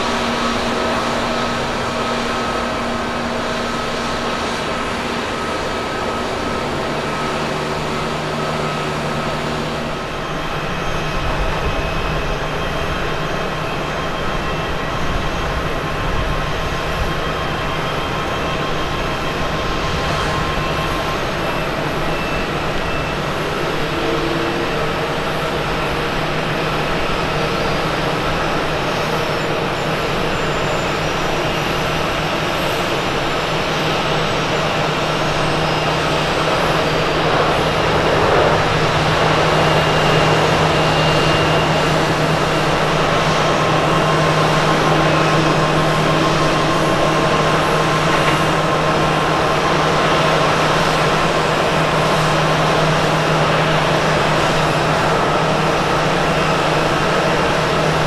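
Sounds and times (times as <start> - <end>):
jet airliner engine rumble: 0.0 - 58.0.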